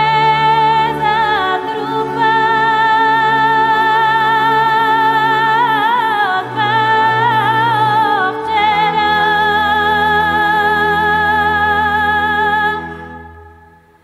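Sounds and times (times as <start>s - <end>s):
high wordless vocal with vibrato: 0.0s - 13.9s.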